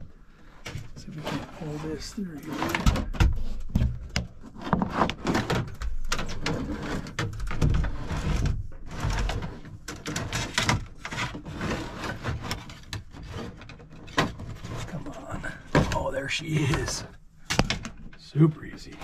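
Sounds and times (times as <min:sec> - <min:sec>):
wires rustling and scraping: 0:00.0 - 0:19.0.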